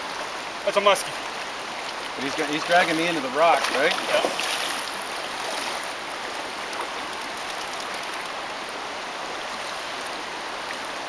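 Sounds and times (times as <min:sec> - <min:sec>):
water rushing in river rapid: 0:00.0 - 0:11.0.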